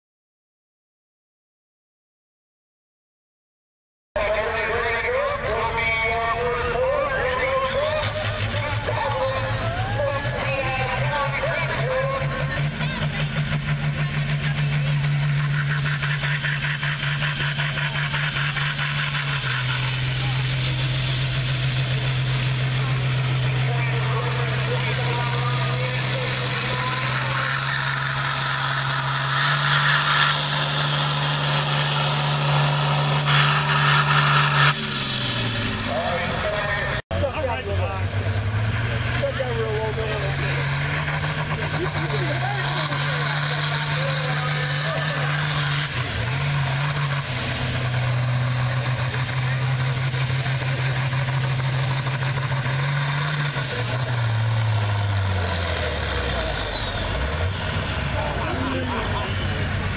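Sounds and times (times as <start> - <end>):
tractor diesel engine droning: 4.2 - 59.9.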